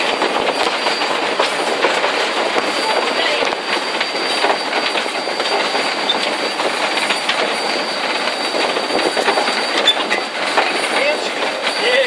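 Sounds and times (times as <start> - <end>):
train wheels clattering on track: 0.0 - 12.0.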